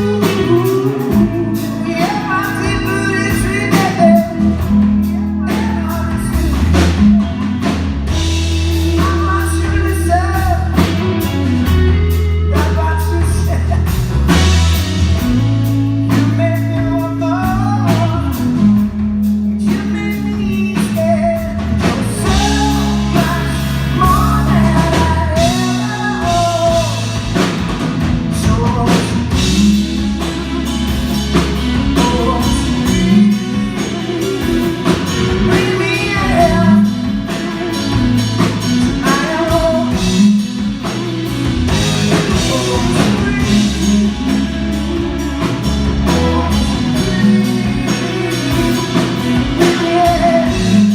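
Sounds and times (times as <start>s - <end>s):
male vocal singing: 0.0s - 7.3s, 8.6s - 11.0s, 12.5s - 14.6s, 16.0s - 27.7s, 28.3s - 50.9s
bass guitar: 0.0s - 50.9s
drum kit: 0.0s - 50.9s
electric guitar: 0.0s - 50.9s.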